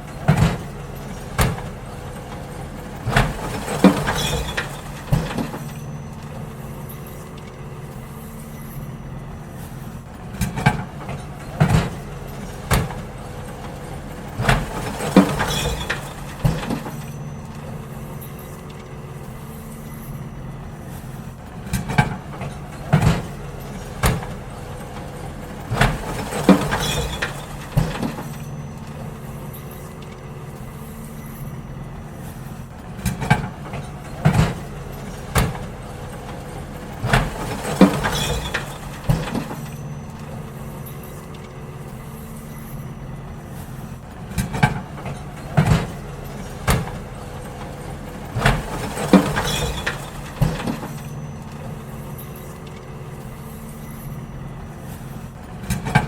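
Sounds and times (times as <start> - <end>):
bins banging and clattering: 0.0 - 56.0
garbage truck engine running: 0.0 - 56.0.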